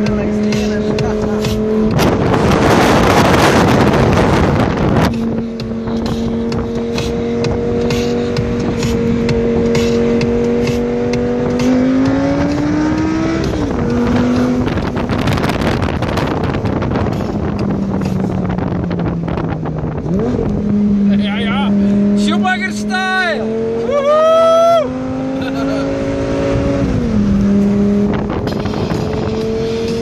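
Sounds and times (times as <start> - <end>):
wind rushing on microphone: 0.0 - 9.8, 10.9 - 22.2, 24.4 - 30.0
car engine droning: 0.0 - 30.0.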